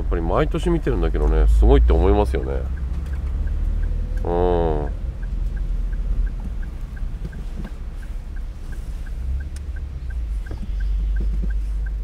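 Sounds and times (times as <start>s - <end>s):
car engine rumble: 0.0s - 12.0s
faint ticking: 1.0s - 12.0s.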